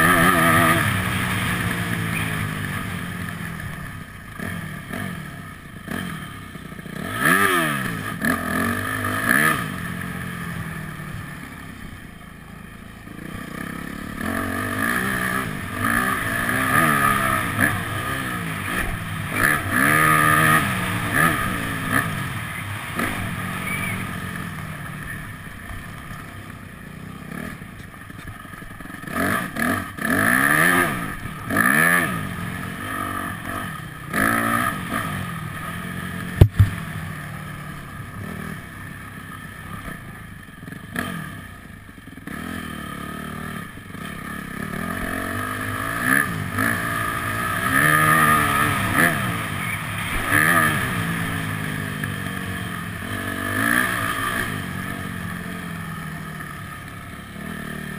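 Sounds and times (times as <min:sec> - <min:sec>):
motocross bike engine revving: 0:00.0 - 0:57.9.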